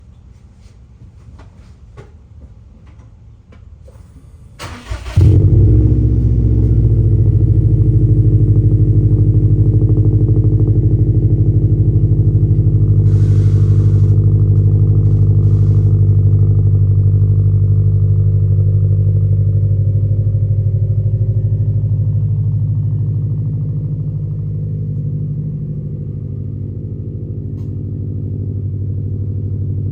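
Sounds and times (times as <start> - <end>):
car engine cranking and idling: 4.6 - 29.9.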